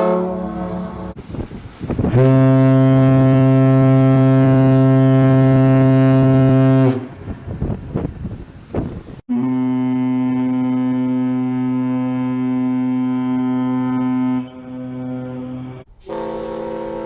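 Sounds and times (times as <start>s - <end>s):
air horn low note: 0.0s - 1.2s, 2.1s - 7.3s, 9.3s - 17.0s.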